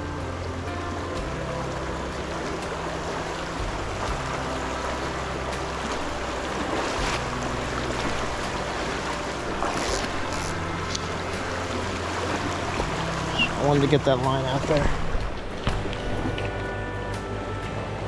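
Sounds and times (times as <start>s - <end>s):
stream rushing over rapids: 0.0s - 18.0s.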